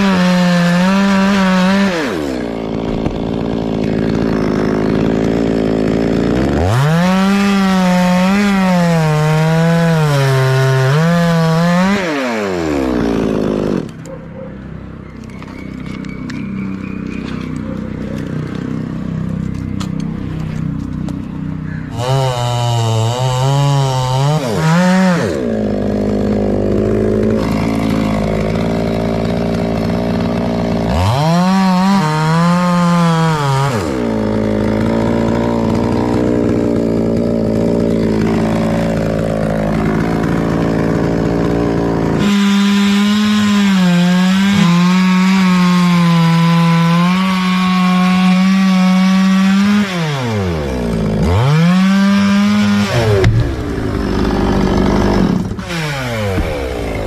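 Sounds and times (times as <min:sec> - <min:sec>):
chainsaw cutting wood: 0:00.0 - 0:14.2, 0:15.2 - 0:57.0.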